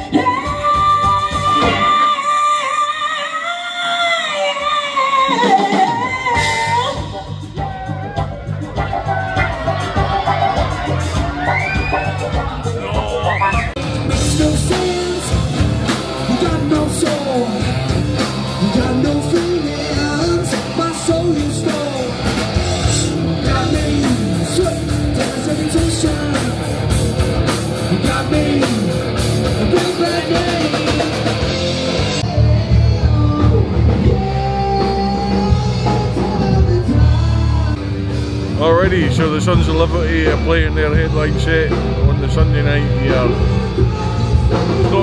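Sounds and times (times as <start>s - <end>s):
lead singer singing: 0.0s - 45.0s
live rock band playing: 0.0s - 45.0s.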